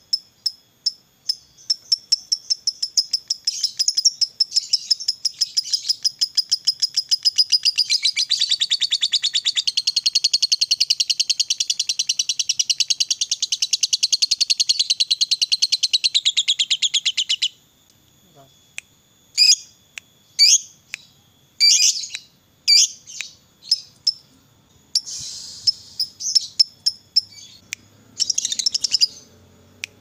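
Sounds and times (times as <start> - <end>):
lovebird chattering trill: 1.2 - 17.6, 19.4 - 19.7, 20.4 - 24.3, 25.0 - 29.8.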